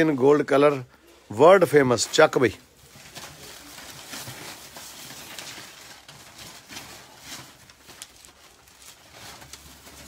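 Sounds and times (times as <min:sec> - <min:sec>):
fabric rustling: 0:01.4 - 0:10.0.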